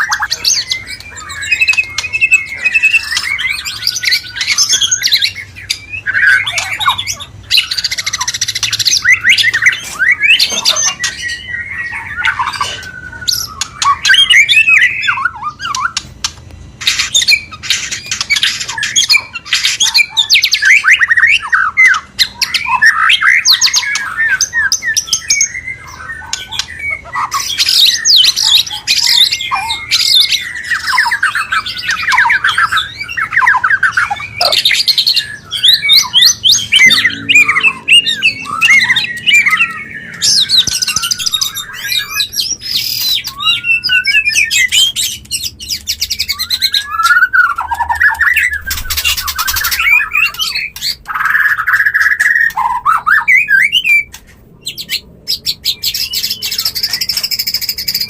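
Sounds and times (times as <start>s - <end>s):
bird whistles and trills: 0.0s - 16.2s, 16.8s - 58.0s
harsh bird chattering calls: 0.0s - 58.0s.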